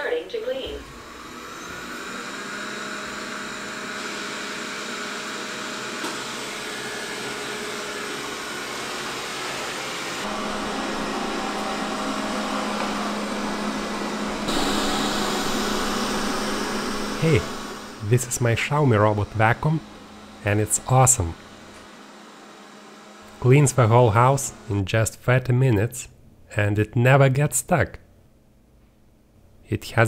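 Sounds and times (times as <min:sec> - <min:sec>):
robot vacuum cleaner whirring: 0:00.4 - 0:24.8.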